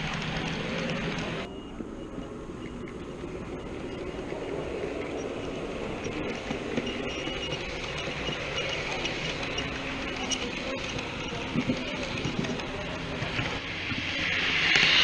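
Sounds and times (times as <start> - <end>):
model train wheels on rail: 0.0 - 15.0.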